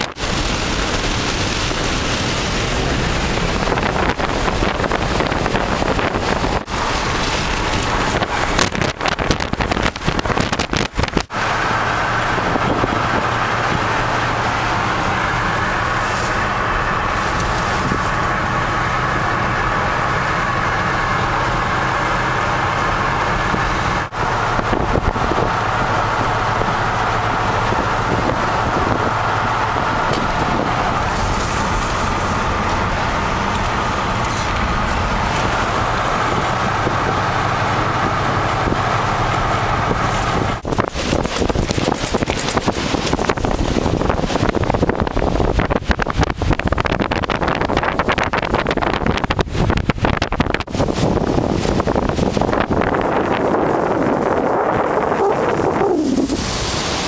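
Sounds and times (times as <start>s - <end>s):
car engine hum: 0.0s - 57.0s
tyre and wind rush: 0.0s - 57.0s.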